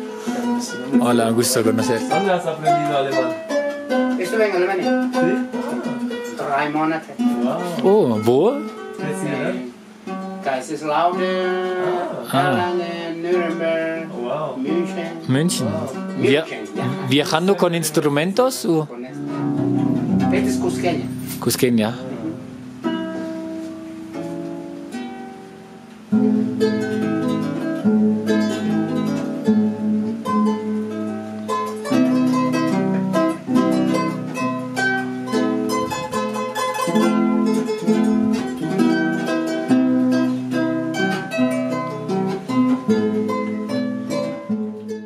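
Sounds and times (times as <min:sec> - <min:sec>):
harp plucked melody: 0:00.0 - 0:45.0.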